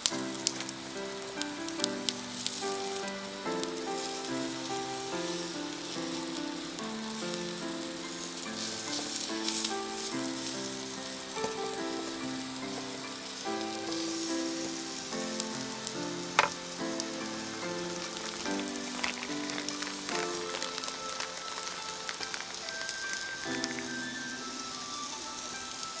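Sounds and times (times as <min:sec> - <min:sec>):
food sizzling on griddle: 0:00.0 - 0:26.0
slow background music: 0:00.0 - 0:26.0.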